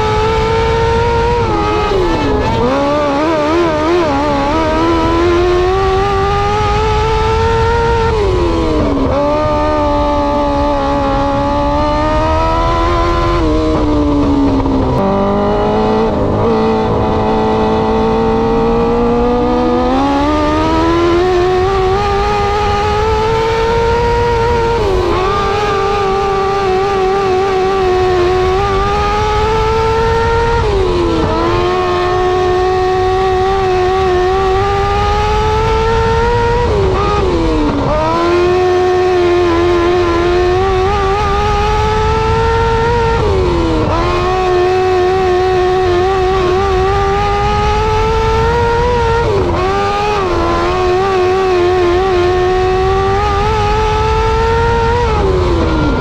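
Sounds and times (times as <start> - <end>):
motorcycle engine revving hard: 0.0 - 56.0.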